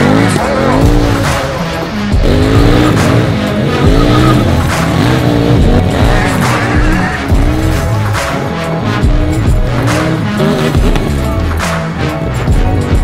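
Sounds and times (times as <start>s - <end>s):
background music: 0.0s - 13.0s
motorcycle revving: 0.0s - 13.0s.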